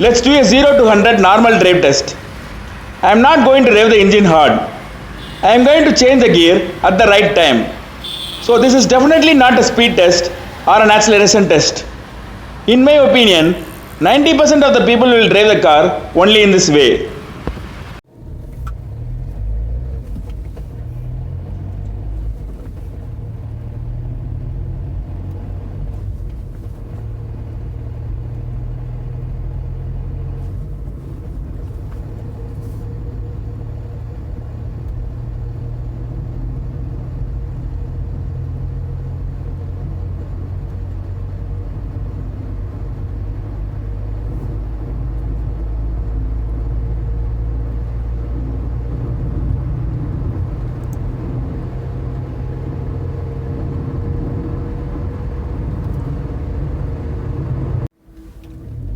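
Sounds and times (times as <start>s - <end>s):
car engine accelerating: 0.0s - 58.9s
road rumble: 0.0s - 58.9s.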